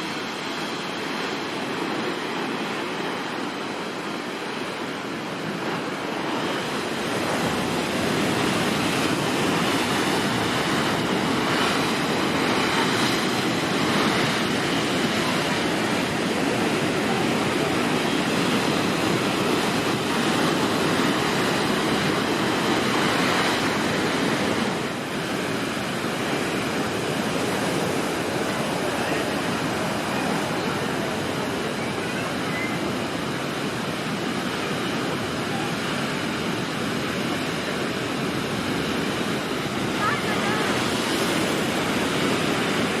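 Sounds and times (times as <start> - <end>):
storm surf crashing ashore: 0.0 - 43.0
wind on microphone: 0.0 - 43.0.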